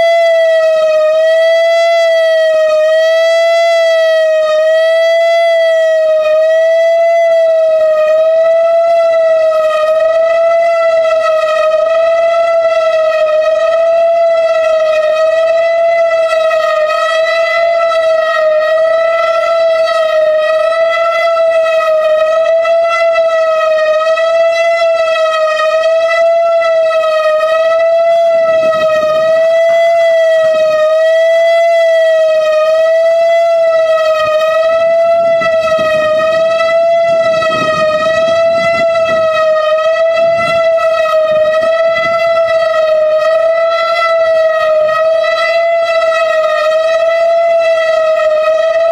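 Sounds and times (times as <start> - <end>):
tornado siren steady tone: 0.0 - 48.9.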